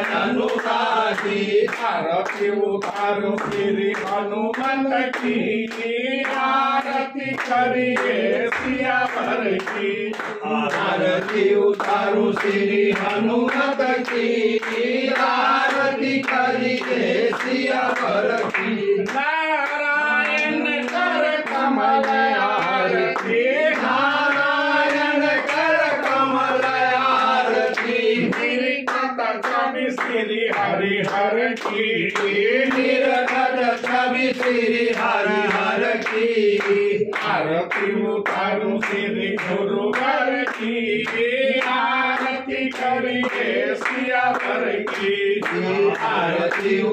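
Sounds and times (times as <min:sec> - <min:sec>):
clapping beat: 0:00.0 - 0:46.9
group singing a hymn: 0:00.0 - 0:46.9.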